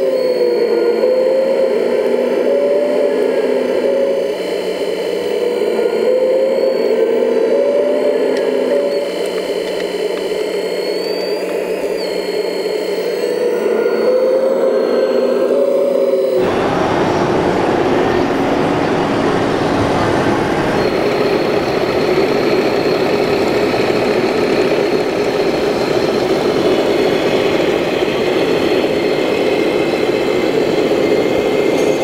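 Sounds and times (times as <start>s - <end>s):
thin high whine: 0.0s - 32.0s
model truck engine: 5.0s - 32.0s.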